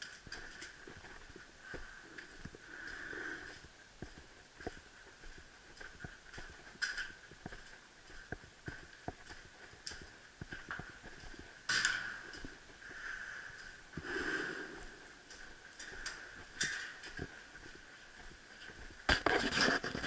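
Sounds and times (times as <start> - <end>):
footsteps on gritty floor: 0.0 - 20.0.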